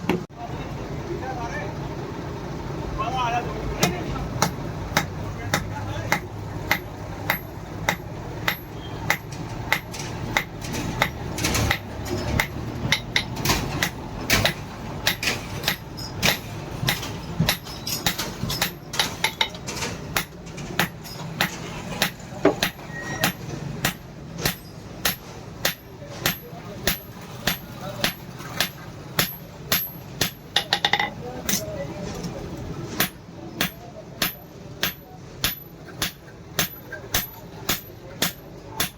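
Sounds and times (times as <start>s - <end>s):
hammer striking steel on anvil: 3.8s - 31.6s, 33.0s - 38.9s.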